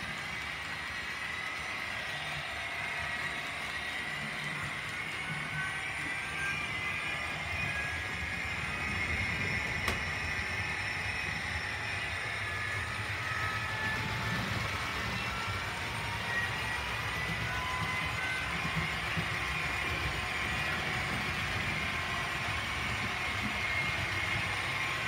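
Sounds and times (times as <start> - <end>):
model train diesel engine sound: 0.0 - 25.0
model train wheels rumbling on rails: 0.0 - 25.0.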